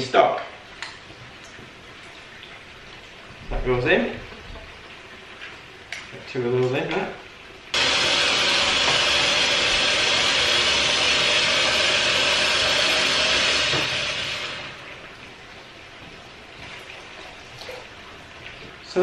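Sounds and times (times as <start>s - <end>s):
tap water running into a jug: 0.3s - 19.0s.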